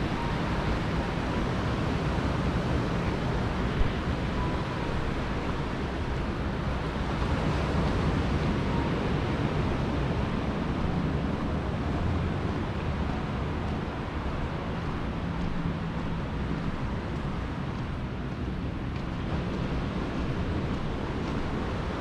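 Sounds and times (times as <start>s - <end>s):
ocean surf: 0.0s - 22.0s
wind: 0.0s - 22.0s.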